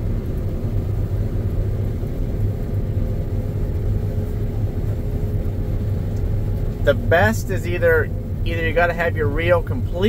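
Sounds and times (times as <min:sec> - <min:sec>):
combine harvester droning: 0:00.0 - 0:10.0
faint steady hum: 0:00.0 - 0:10.0.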